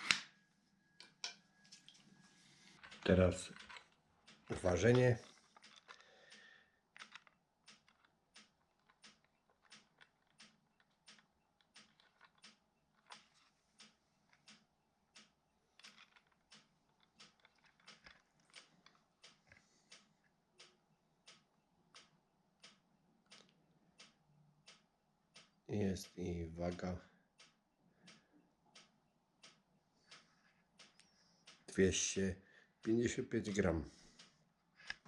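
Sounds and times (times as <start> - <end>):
faint small clicks: 2.7 - 31.8.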